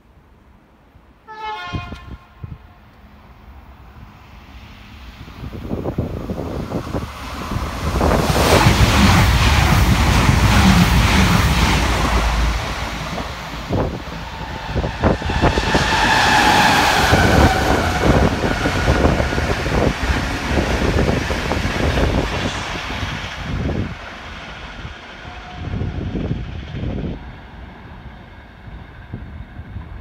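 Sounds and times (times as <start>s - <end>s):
diesel train passing at speed: 0.0s - 30.0s
wind buffeting the microphone: 5.1s - 30.0s.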